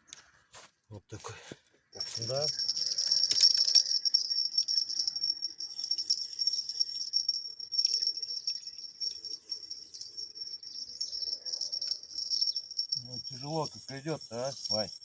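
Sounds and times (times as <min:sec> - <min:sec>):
insects chirping: 0:02.0 - 0:15.0.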